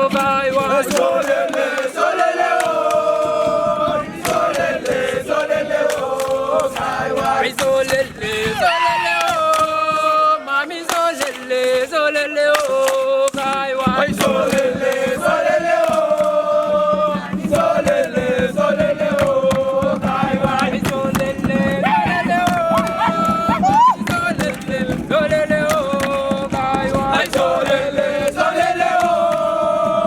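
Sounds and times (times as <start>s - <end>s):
young voices chanting a song: 0.4s - 11.3s, 14.2s - 30.0s.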